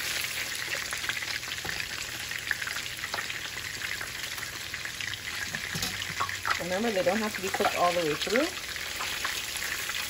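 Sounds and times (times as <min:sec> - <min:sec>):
meatballs sizzling in oil: 0:00.0 - 0:10.0.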